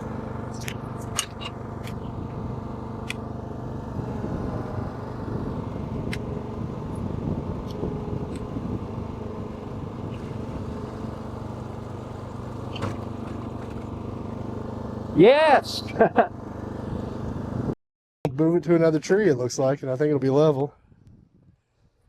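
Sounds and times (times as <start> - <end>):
lawn mower engine running: 0.0 - 17.7.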